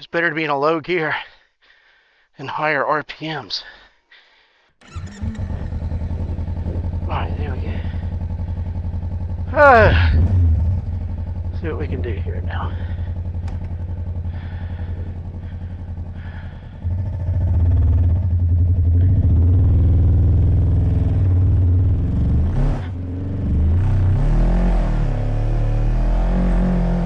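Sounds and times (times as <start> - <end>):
motorcycle engine revving: 4.8 - 27.0.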